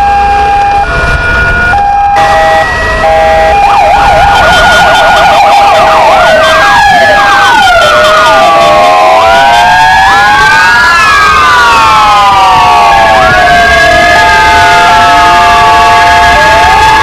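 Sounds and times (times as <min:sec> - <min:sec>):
fast warbling yelp siren: 0:00.0 - 0:17.0
rising and falling siren wails: 0:00.0 - 0:17.0
two-tone hi-lo siren: 0:00.0 - 0:17.0.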